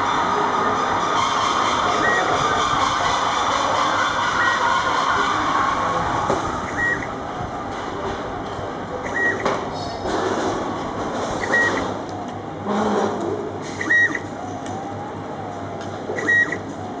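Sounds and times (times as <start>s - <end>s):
steady machine noise: 0.0s - 17.0s.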